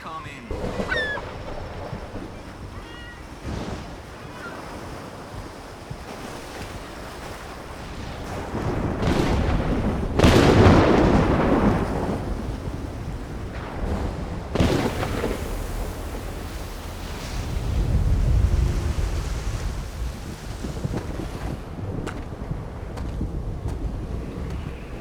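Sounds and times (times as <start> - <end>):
thunder cracks and rumble: 0.5 - 25.0.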